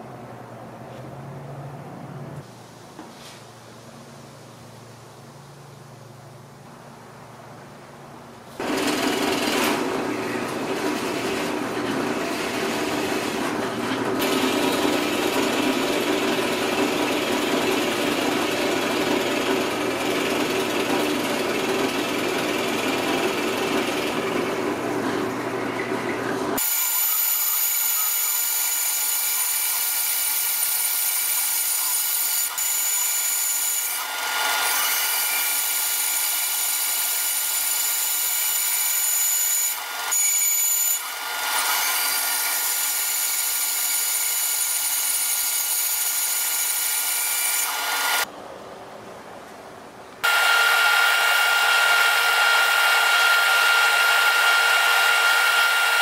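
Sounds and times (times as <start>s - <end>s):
bandsaw cutting wood: 8.6s - 48.3s, 50.2s - 56.0s
drill press boring wood: 8.6s - 48.3s, 50.2s - 56.0s.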